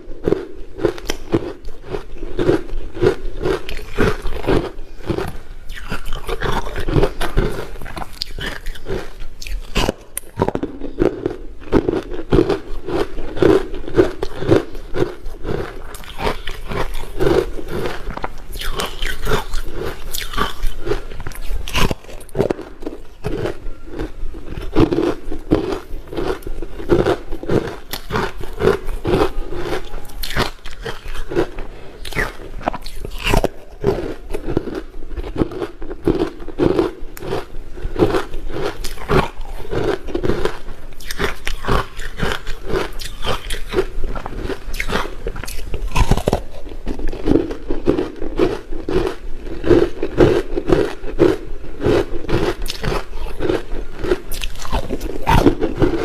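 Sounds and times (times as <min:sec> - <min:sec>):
teeth crunching ice: 0:00.0 - 0:56.0.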